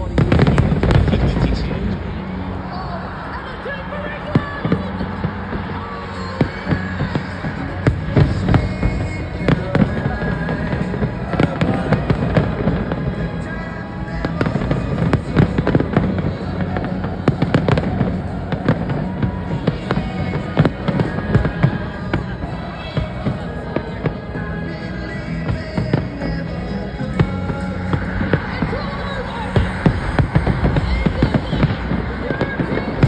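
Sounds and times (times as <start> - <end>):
fireworks bangs and crackles: 0.0 - 33.0
loud music with steady bass: 0.0 - 33.0.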